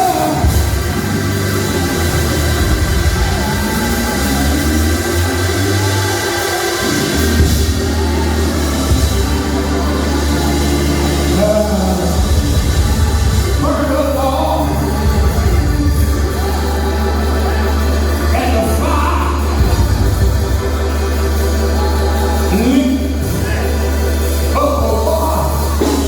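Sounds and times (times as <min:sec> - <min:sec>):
church music with held chords: 0:00.0 - 0:26.0.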